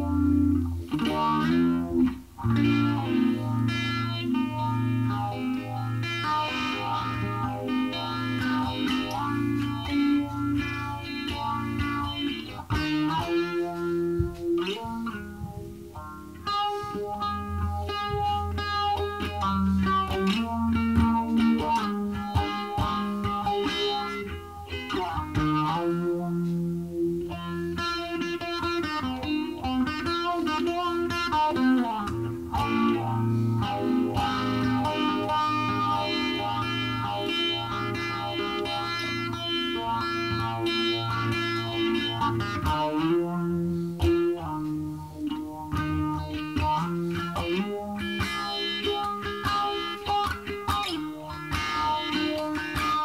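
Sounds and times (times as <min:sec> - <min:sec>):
electric guitar with effects: 0:00.0 - 0:53.0.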